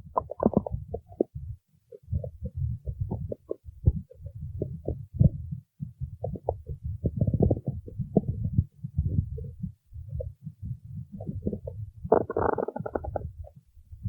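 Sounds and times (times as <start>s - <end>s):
stomach growling: 0.0s - 13.7s.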